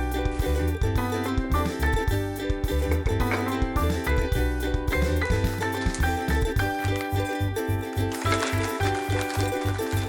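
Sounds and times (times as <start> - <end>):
upbeat music with bass and drums: 0.0 - 10.0.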